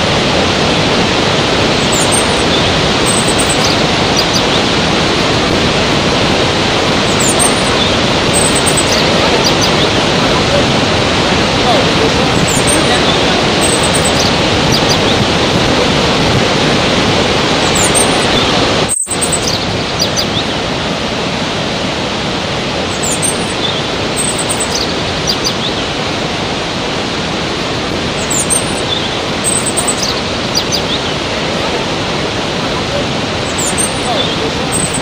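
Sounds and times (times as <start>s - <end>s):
birds chirping: 0.0s - 21.0s, 22.5s - 35.0s
waterfall rushing: 0.0s - 35.0s.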